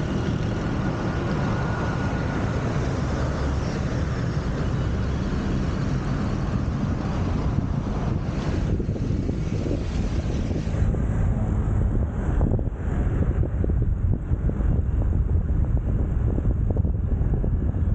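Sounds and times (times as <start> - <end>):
car road noise: 0.0 - 17.9
wind rush: 0.0 - 17.9.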